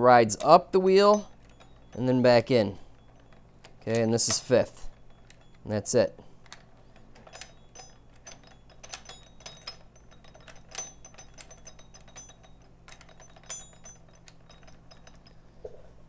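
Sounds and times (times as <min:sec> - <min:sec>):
metallic gearbox clicks: 0:00.1 - 0:15.6.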